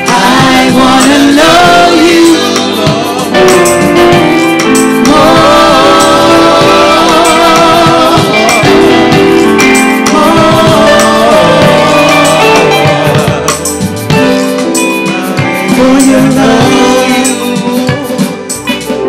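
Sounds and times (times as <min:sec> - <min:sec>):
band playing: 0:00.0 - 0:19.0
percussion strokes: 0:00.0 - 0:19.0
voices singing held notes: 0:00.0 - 0:19.0.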